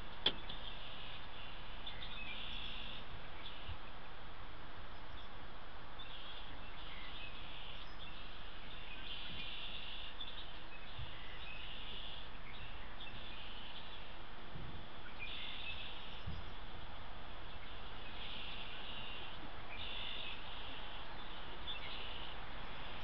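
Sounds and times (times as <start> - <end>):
steady outdoor hiss: 0.0 - 23.0
songbird trilling: 0.1 - 3.8, 6.0 - 14.1, 15.0 - 16.6, 17.5 - 23.0.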